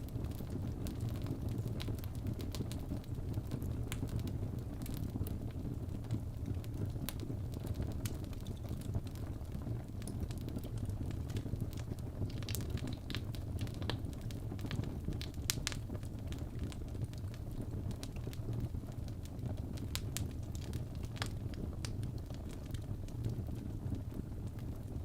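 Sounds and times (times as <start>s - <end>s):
fire rumbling: 0.0s - 25.0s
logs crackling and popping: 0.0s - 25.0s.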